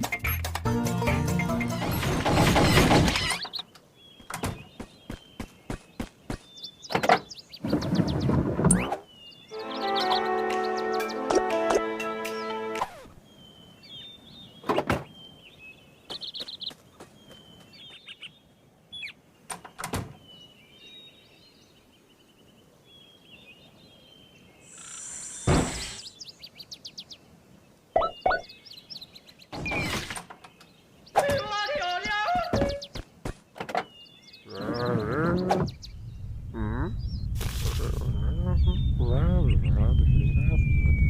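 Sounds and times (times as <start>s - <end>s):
faint birds chirping: 0.0s - 41.0s.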